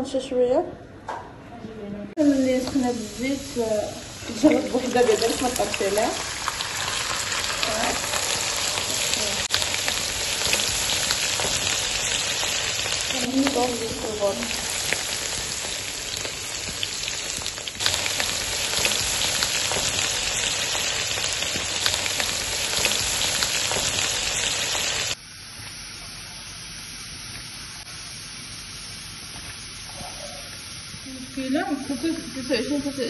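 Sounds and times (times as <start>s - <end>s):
almonds sizzling in hot oil: 2.2s - 33.0s.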